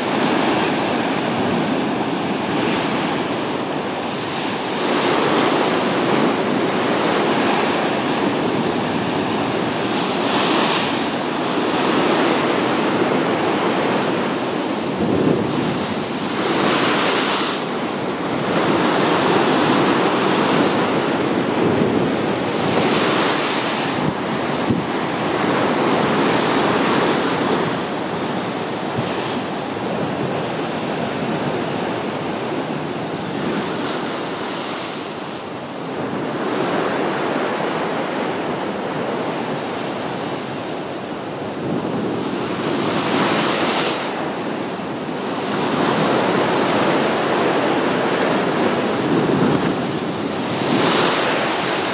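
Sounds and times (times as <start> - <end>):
waves breaking on rocky shore: 0.0 - 51.9.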